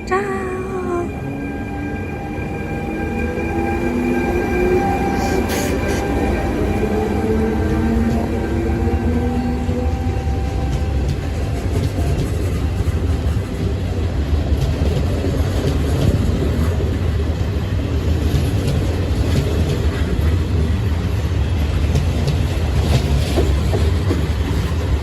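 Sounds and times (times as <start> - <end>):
train wheels rumbling on rails: 1.1 - 25.0.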